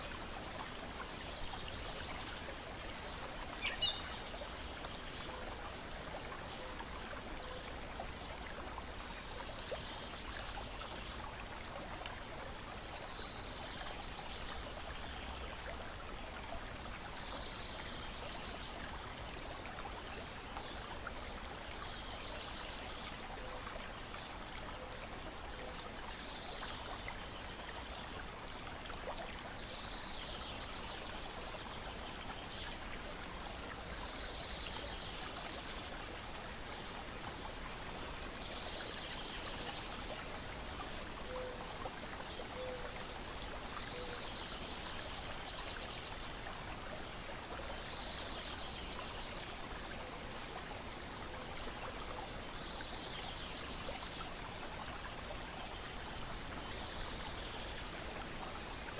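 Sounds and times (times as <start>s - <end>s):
water lapping and trickling: 0.0s - 58.9s.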